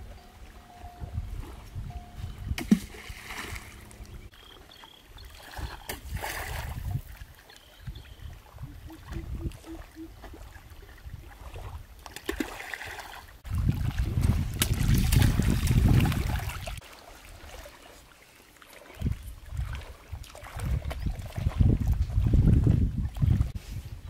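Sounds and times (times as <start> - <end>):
wind buffeting microphone: 0.0 - 4.3, 5.2 - 12.0, 13.4 - 16.8, 19.0 - 24.0
small waves lapping: 0.0 - 23.5.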